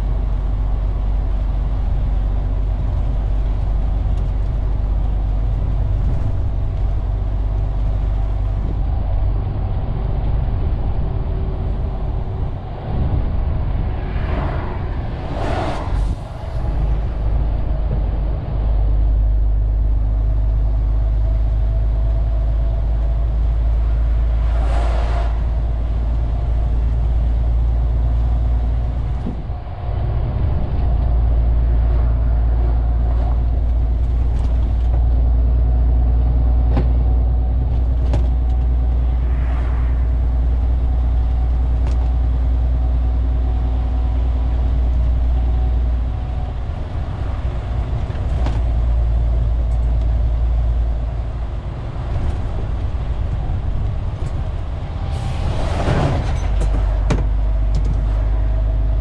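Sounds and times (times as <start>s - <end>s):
diesel truck engine rumble: 0.0s - 59.0s
passing truck rush: 0.0s - 59.0s
road noise: 0.0s - 59.0s.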